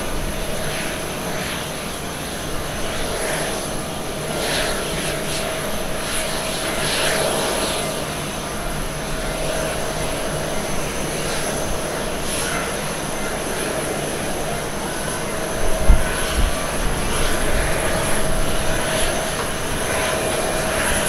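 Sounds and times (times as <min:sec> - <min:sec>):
jet engines at takeoff power: 0:00.0 - 0:21.0.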